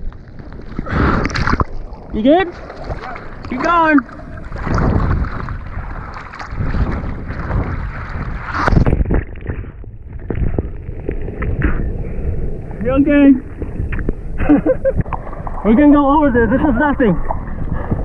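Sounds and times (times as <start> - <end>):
water splashing and sloshing: 0.0 - 18.0
wind buffeting microphone: 0.0 - 18.0.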